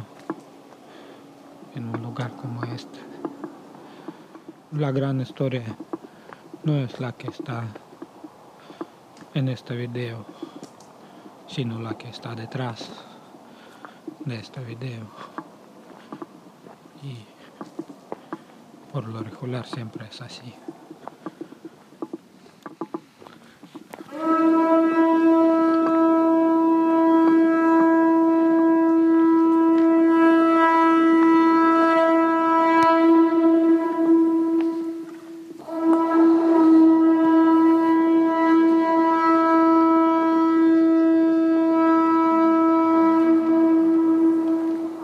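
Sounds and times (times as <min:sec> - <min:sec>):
conch shell trumpet blasts: 0:00.9 - 0:08.0, 0:08.7 - 0:22.1, 0:23.8 - 0:45.0.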